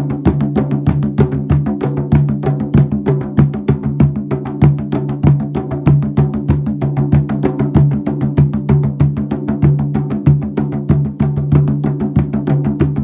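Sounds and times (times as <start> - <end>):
fast drum strokes: 0.0 - 13.0.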